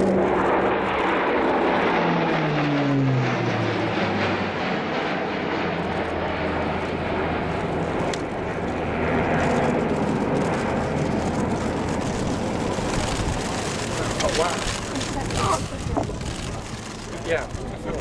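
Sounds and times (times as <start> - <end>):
low hum: 0.0 - 18.0
turboprop aircraft droning: 0.0 - 18.0.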